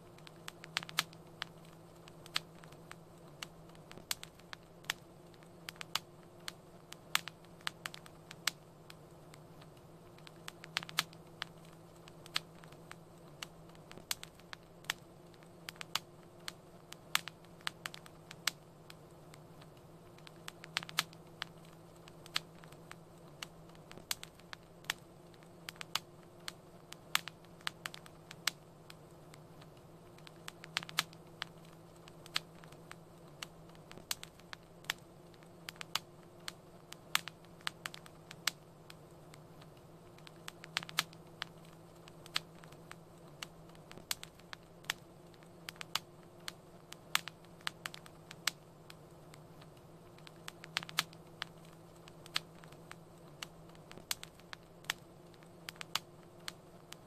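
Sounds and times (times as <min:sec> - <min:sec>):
faint low hum and hiss: 0:00.0 - 0:57.0
fire crackling and popping: 0:00.0 - 0:57.0.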